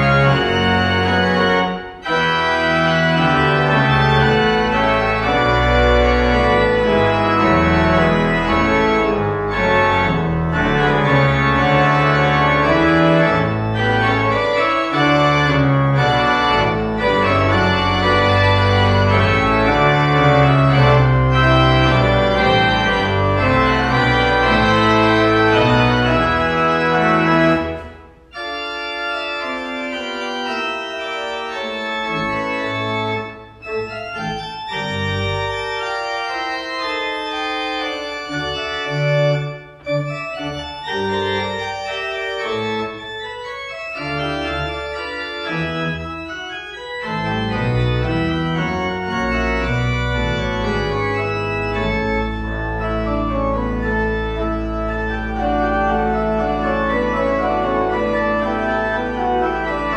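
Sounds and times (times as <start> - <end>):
church pipe organ playing: 0.0 - 59.9.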